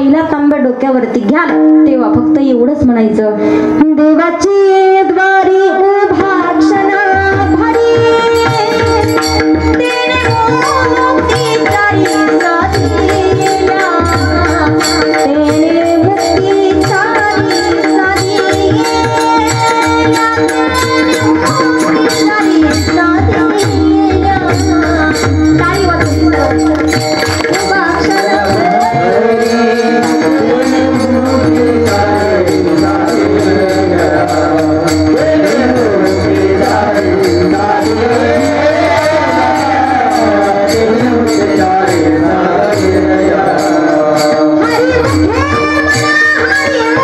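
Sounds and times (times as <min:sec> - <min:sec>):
woman singing into a microphone: 0:00.0 - 0:47.0.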